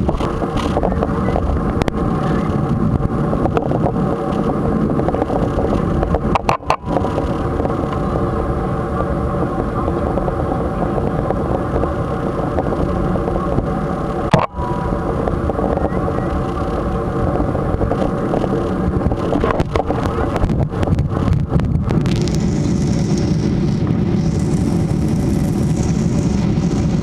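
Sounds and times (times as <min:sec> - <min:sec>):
jet engine roar inside cabin: 0:00.0 - 0:27.0.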